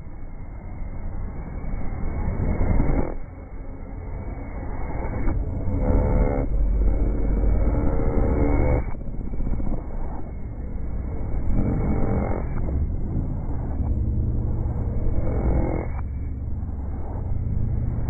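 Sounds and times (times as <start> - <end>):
distorted pitched-down song: 0.0 - 18.0.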